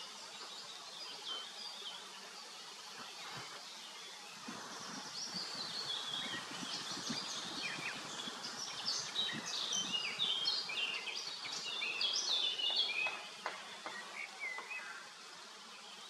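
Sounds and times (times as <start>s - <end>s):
songbirds twittering: 0.0s - 16.0s.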